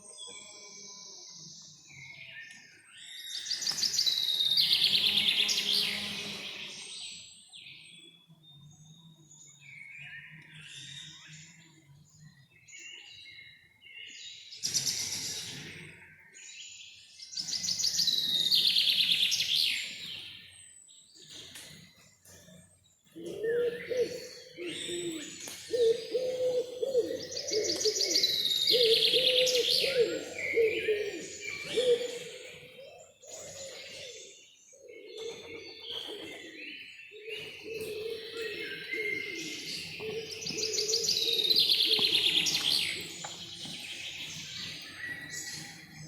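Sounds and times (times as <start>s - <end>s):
songbirds singing: 0.0s - 46.0s.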